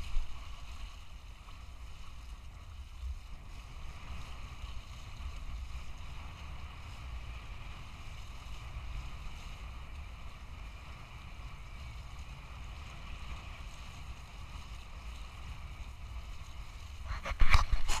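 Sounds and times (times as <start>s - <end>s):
faint hiss: 0.0s - 18.0s
wind buffeting microphone: 0.0s - 18.0s.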